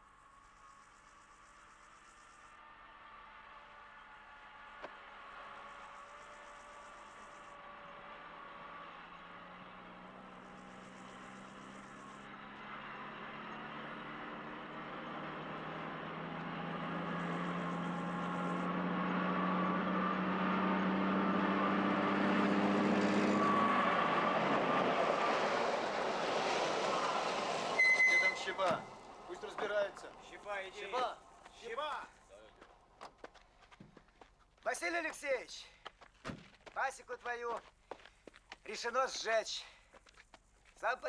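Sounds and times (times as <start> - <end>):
vehicle engines droning: 0.0 - 34.4
vehicles arriving on dirt track: 0.0 - 41.0.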